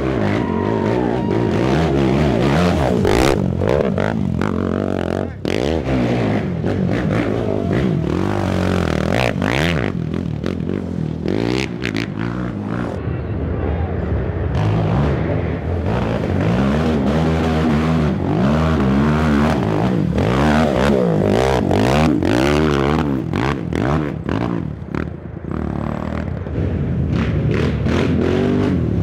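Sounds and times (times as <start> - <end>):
quad engine revving: 0.0 - 13.0, 15.8 - 29.0.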